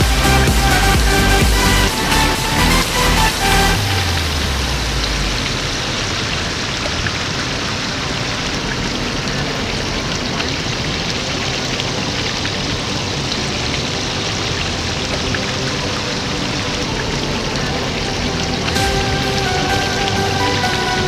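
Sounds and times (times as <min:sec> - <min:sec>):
pattering rush of water: 0:00.0 - 0:21.0.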